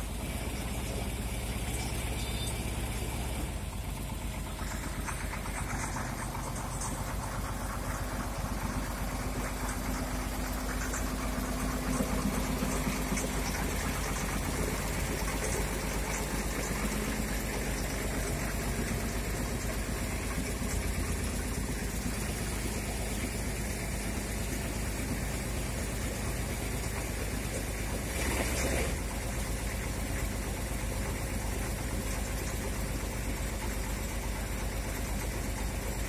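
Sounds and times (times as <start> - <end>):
diesel engine clattering: 0.0 - 36.0.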